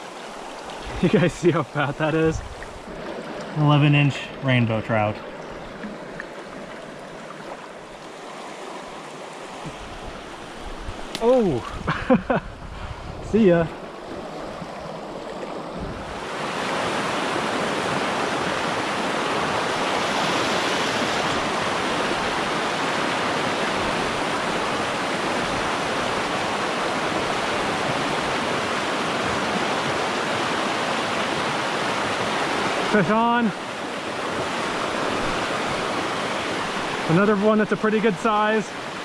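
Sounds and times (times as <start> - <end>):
stream rushing over rocks: 0.0 - 11.8, 13.3 - 39.0.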